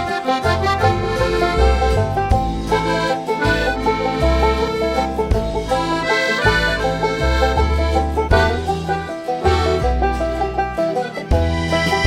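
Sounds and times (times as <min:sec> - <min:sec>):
banjo-like plucked strings: 0:00.0 - 0:12.0
steady bass line: 0:00.0 - 0:12.0.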